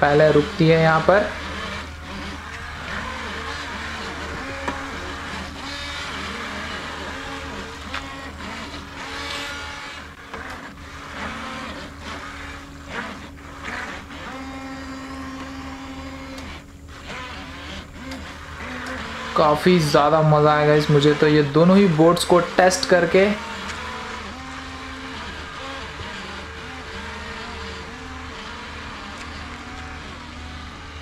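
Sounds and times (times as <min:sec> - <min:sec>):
rc boat electric motors whining: 0:00.0 - 0:31.0.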